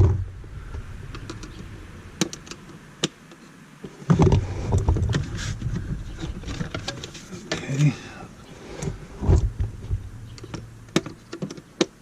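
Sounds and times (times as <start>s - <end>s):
rustling and knocking: 0.0s - 2.8s, 3.8s - 7.9s, 8.8s - 12.0s.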